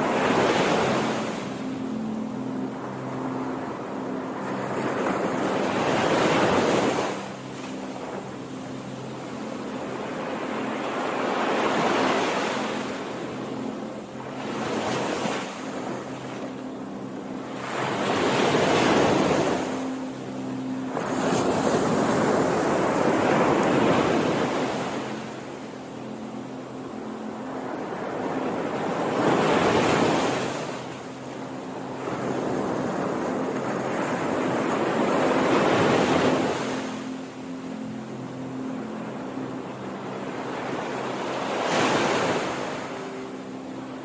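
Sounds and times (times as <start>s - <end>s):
ocean waves breaking on shore: 0.0s - 44.0s.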